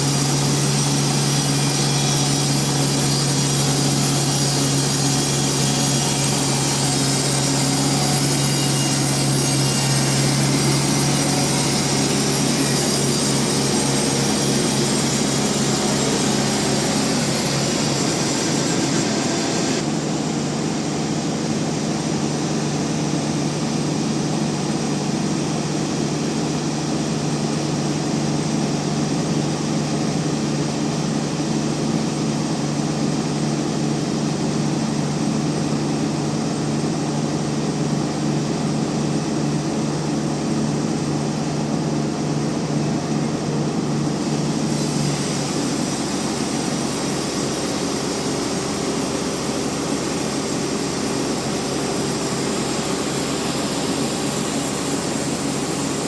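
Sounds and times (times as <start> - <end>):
band saw blade cutting log: 0.0 - 56.0
sawmill machine hum: 0.0 - 56.0.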